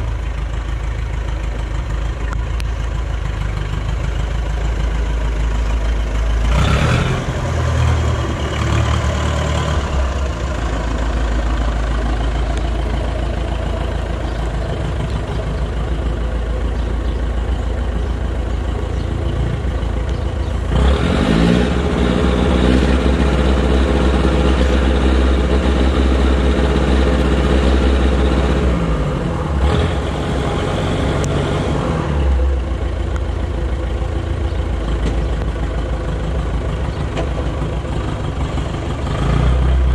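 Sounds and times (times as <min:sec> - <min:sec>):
forklift engine idling and revving: 0:00.0 - 0:39.9.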